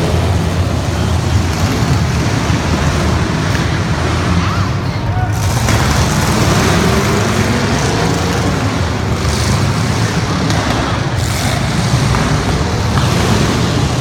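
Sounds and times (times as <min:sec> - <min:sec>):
truck engines running: 0:00.0 - 0:14.0.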